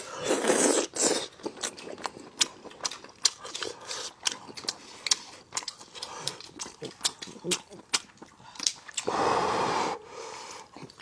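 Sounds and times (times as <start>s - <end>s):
person chewing cartilage: 0.0s - 9.2s, 10.0s - 11.0s.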